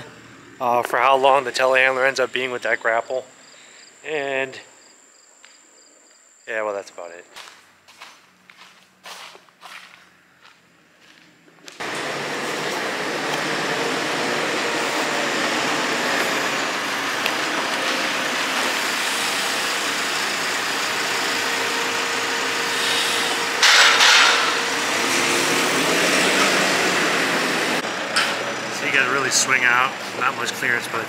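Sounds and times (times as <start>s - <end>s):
diesel engine running: 0.0s - 2.6s, 7.7s - 31.0s.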